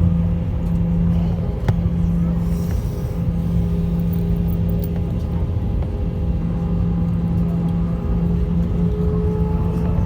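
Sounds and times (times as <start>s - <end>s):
jet engines rumbling in cabin: 0.0s - 10.0s.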